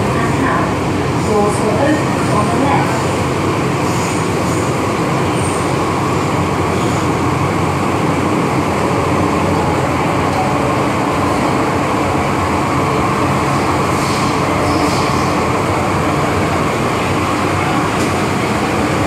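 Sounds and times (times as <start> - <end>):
train running noise inside carriage: 0.0 - 19.0.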